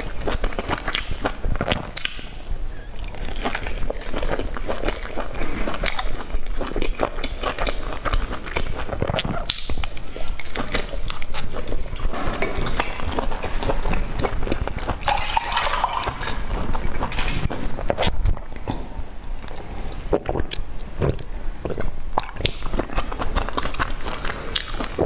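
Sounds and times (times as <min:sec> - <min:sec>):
person chewing fried food: 0:00.0 - 0:15.2, 0:20.1 - 0:25.0.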